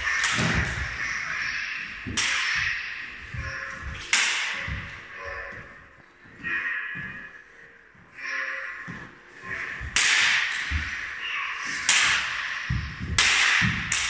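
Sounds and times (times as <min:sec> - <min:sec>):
lightsabers clashing: 0:00.0 - 0:14.0.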